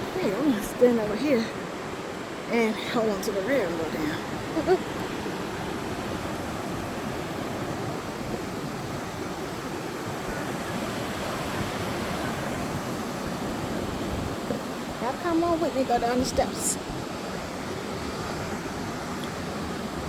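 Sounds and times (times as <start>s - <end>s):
ocean waves washing onto beach: 0.0s - 20.0s.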